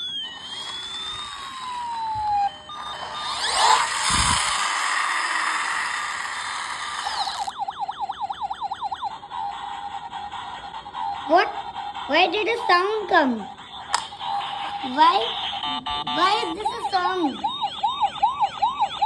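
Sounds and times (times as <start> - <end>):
toy police car siren: 0.0 - 19.0.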